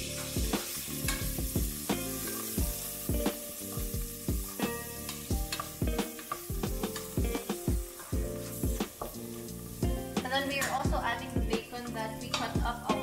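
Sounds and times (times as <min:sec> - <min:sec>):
vegetables sizzling in butter: 0:00.0 - 0:13.0.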